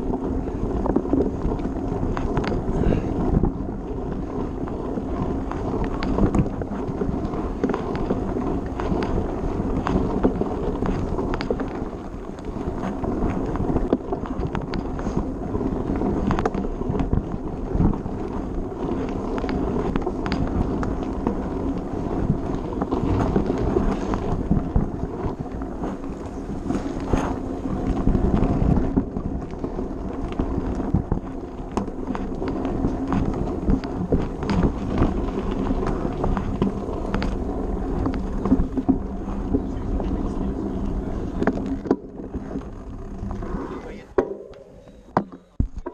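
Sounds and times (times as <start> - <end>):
bike rattling and knocking: 0.0 - 45.9
bike tyres crunching over dirt: 0.0 - 45.9
wind on microphone: 0.0 - 45.9.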